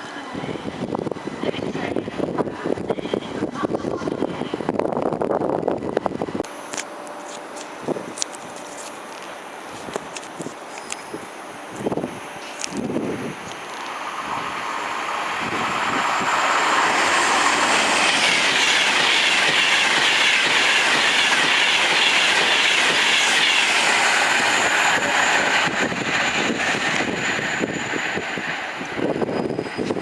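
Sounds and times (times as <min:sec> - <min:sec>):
train passing on tracks: 0:00.0 - 0:30.0.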